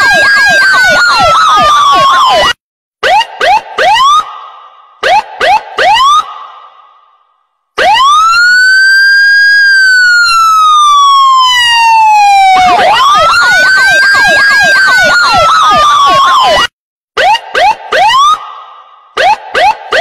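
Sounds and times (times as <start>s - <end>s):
electronic siren wailing and yelping: 0.0s - 4.3s, 5.0s - 6.3s, 7.8s - 18.4s, 19.2s - 20.0s.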